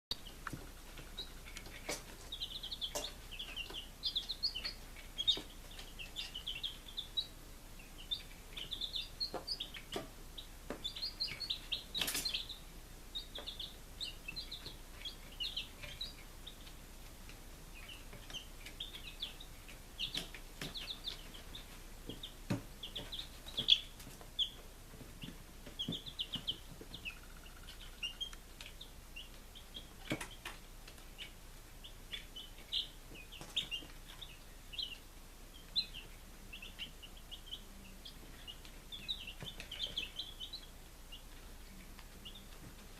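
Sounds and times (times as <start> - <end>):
chicks peeping: 0.1 - 42.9.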